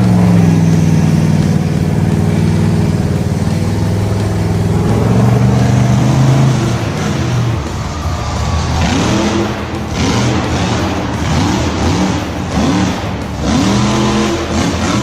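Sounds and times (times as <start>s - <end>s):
background music: 0.0s - 15.0s
vehicle engine revving: 0.0s - 15.0s.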